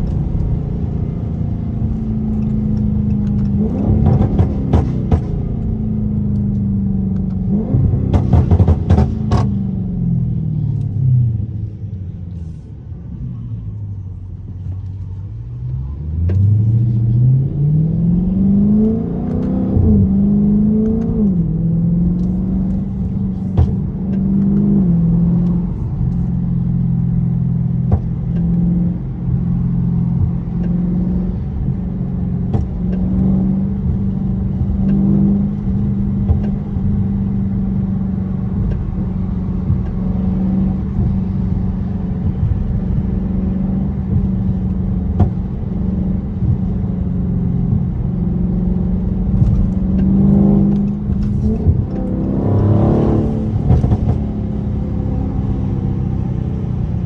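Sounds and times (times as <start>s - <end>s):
car engine: 0.0s - 57.0s.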